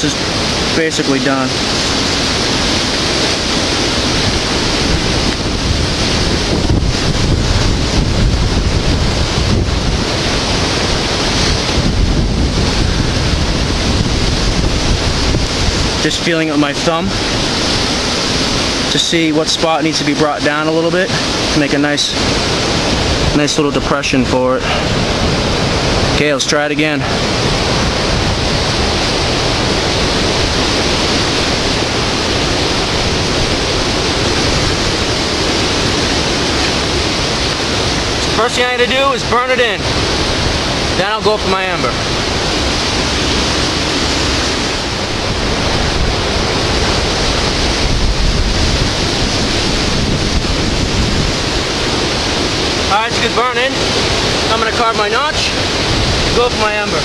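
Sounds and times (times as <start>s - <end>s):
wind and rain rushing: 0.0s - 57.0s.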